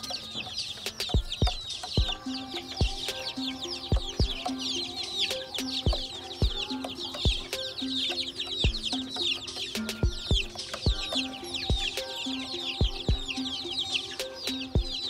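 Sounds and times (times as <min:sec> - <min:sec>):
background music with thumping beat: 0:00.0 - 0:15.0
chicks peeping: 0:00.0 - 0:15.0.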